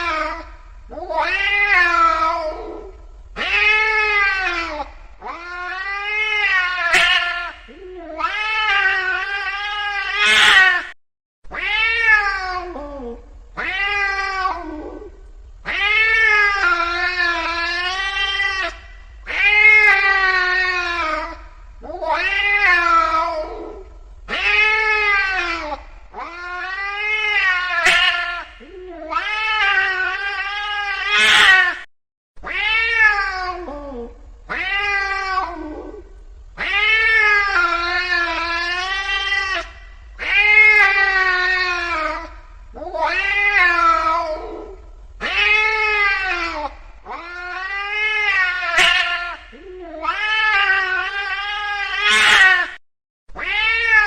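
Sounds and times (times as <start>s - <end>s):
angry cat yowling: 0.0s - 52.8s, 53.4s - 54.0s.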